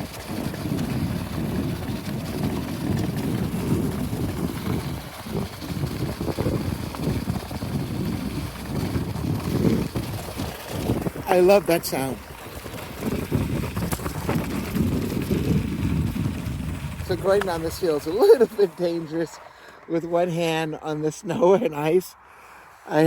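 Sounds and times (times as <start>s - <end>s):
wind on microphone: 0.0s - 19.2s
bicycle tyres rolling over snow: 0.0s - 19.7s.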